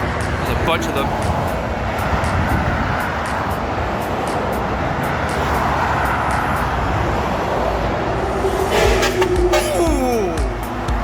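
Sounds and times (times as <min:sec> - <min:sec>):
heavy lorries passing: 0:00.0 - 0:11.0.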